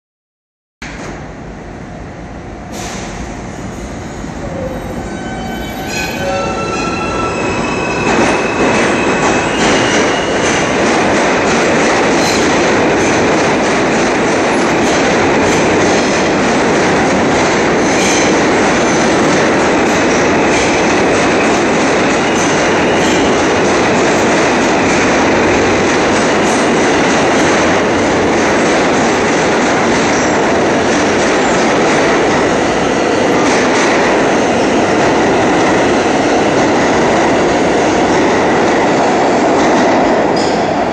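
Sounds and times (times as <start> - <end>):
train wheels rumbling on rails: 0.8 - 40.9.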